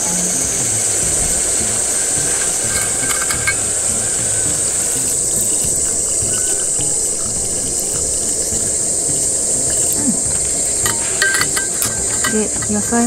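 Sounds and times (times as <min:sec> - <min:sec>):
water pouring into a pot: 0:00.0 - 0:12.9
light background music: 0:00.0 - 0:13.0
steady high-pitched hiss: 0:00.0 - 0:13.0.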